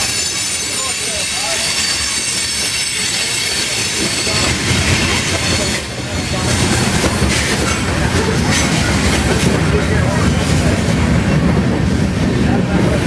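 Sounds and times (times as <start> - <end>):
freight train wheels clattering: 0.0 - 13.0.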